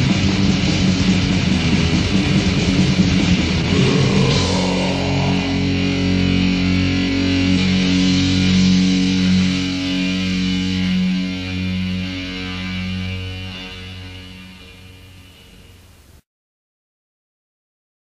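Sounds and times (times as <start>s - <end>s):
bass guitar: 0.0s - 15.7s
distorted electric guitar chords: 0.0s - 15.8s.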